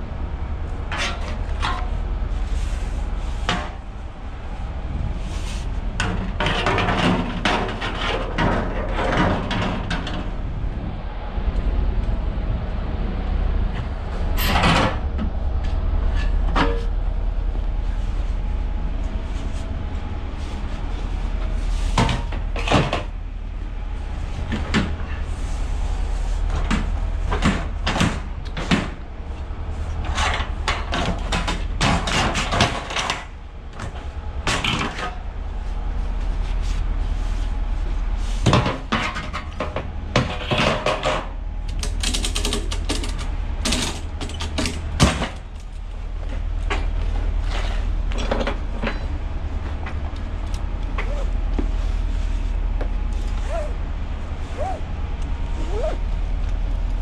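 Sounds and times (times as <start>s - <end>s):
steady low rumble: 0.0s - 40.4s, 42.7s - 57.0s.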